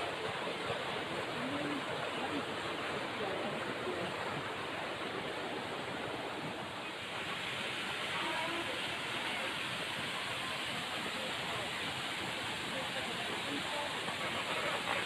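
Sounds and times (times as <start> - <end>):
faint voices: 0.0 - 6.9, 8.0 - 15.0.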